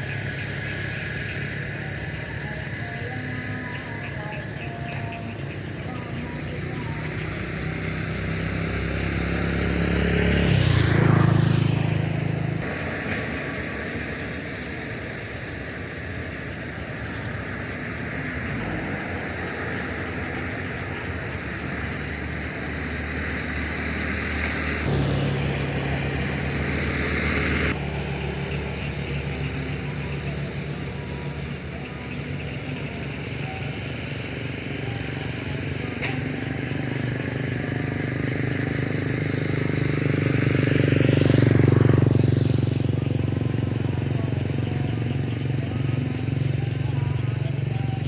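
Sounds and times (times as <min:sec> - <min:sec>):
road traffic engine rumble: 0:00.0 - 0:48.0
vehicle passing close by: 0:05.3 - 0:48.0.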